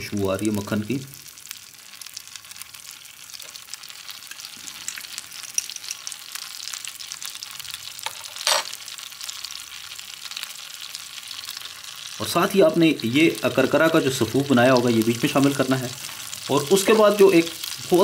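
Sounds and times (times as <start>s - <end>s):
butter sizzling in a frying pan: 0.0s - 18.0s.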